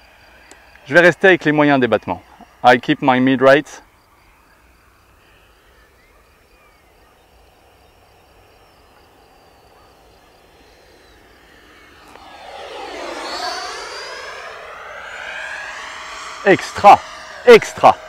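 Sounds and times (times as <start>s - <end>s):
model jet ducted fan whine: 0.0s - 18.0s.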